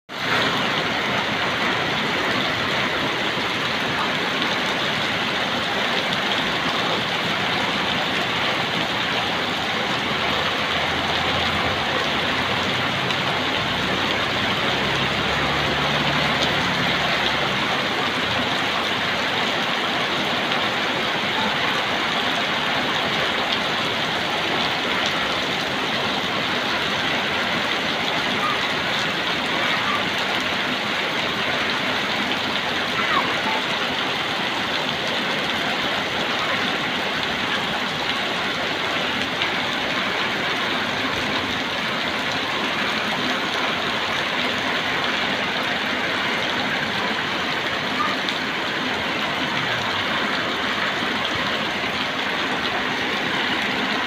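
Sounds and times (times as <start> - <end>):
heavy rain pouring: 0.1 - 54.0.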